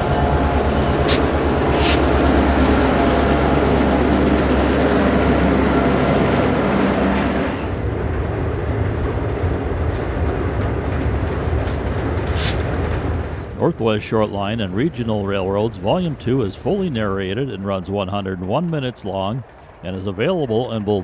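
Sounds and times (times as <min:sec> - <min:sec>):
diesel locomotive engines rumbling: 0:00.0 - 0:21.0
train rolling across steel bridge: 0:00.0 - 0:21.0.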